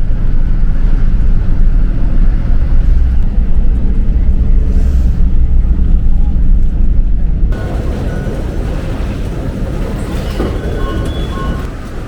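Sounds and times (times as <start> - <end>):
bus rumbling on the move: 0.0 - 12.0.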